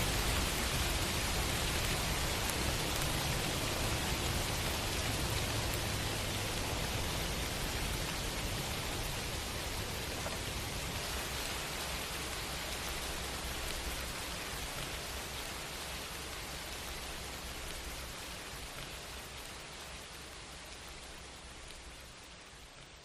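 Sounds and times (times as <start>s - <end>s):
steady hiss of falling rain: 0.0s - 23.0s.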